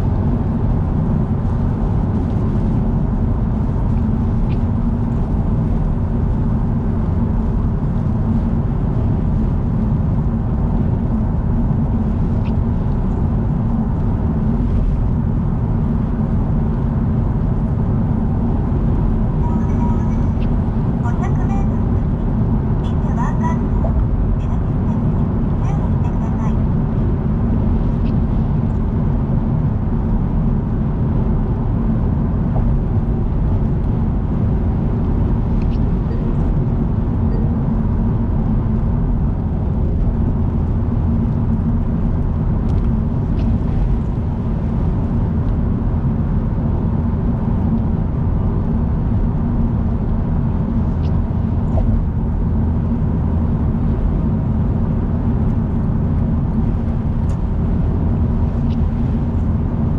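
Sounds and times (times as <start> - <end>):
car road and engine rumble: 0.0 - 59.9
faint constant hum: 0.0 - 59.9.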